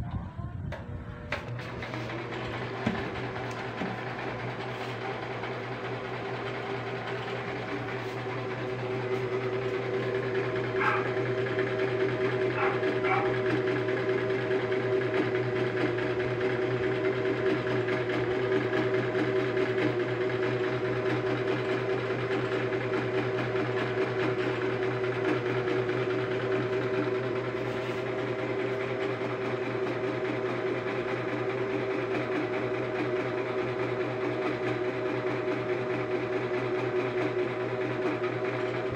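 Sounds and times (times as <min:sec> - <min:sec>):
sewing machine running: 0:01.3 - 0:38.9.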